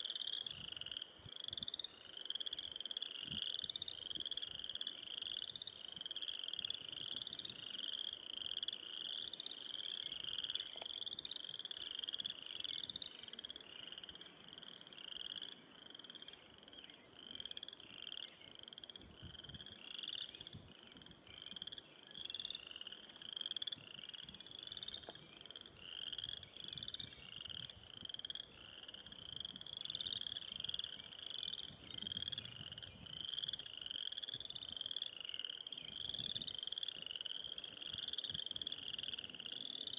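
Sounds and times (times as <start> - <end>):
frogs peeping: 0.0 - 39.9.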